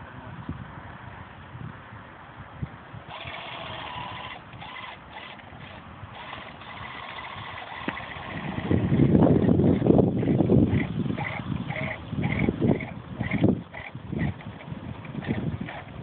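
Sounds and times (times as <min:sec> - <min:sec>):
small electric motor whine: 0:03.1 - 0:16.0.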